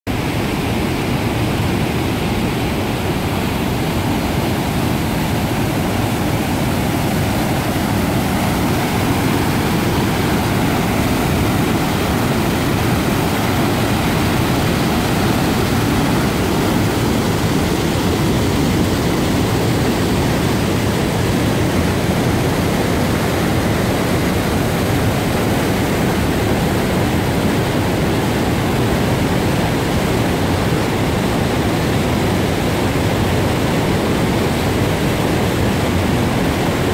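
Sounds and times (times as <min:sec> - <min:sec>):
river rapids rushing: 0:00.1 - 0:36.9.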